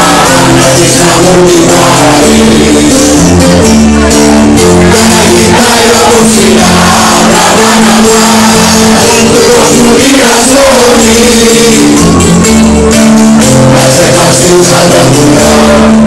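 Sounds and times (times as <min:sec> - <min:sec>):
bass line: 0:00.0 - 0:16.0
lute playing: 0:00.0 - 0:16.0
person singing: 0:00.0 - 0:16.0
string instrument playing: 0:00.0 - 0:16.0.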